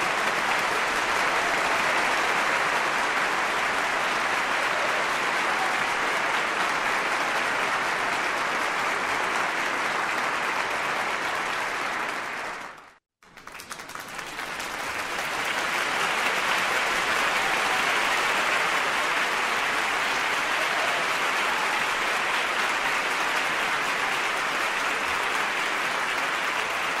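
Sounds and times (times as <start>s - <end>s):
crowd applauding: 0.0s - 27.0s.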